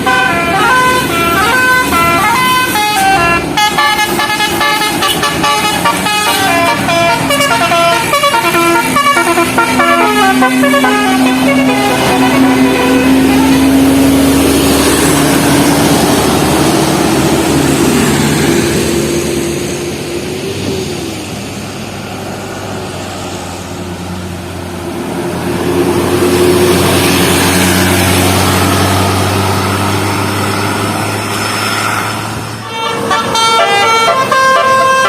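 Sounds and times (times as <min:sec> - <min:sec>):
buses passing: 0:00.0 - 0:35.0
tyre and road noise: 0:00.0 - 0:35.0.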